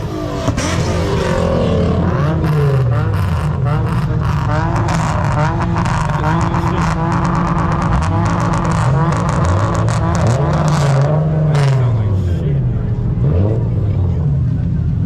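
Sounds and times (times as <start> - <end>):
exhaust crackles: 0.0 - 12.9
car engine revving: 0.0 - 15.0.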